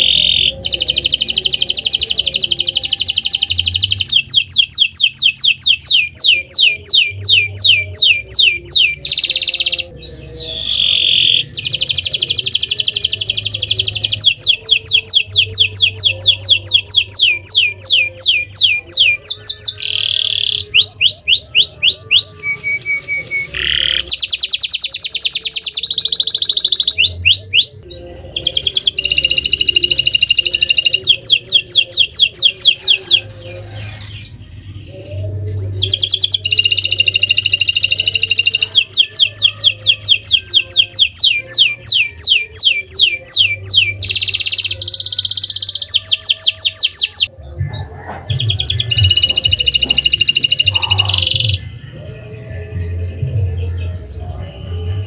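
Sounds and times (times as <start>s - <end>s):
canary singing in trills: 0.0s - 55.0s.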